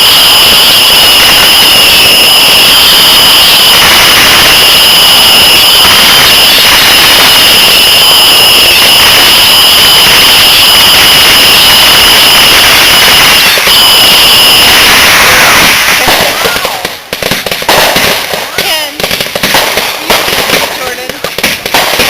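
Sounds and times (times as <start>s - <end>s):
firework fountain hissing roar: 0.0s - 22.0s.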